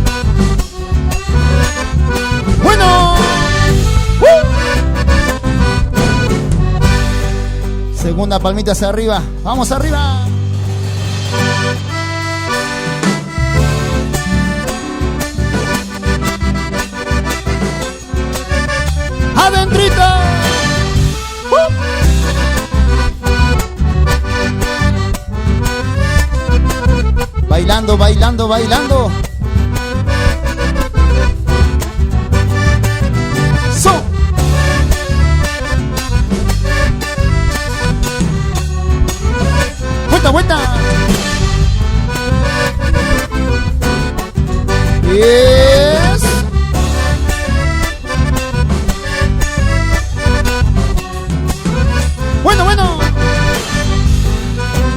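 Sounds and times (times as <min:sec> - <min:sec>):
accordion folk dance music: 0:00.0 - 0:54.9
bass beat: 0:00.0 - 0:54.9.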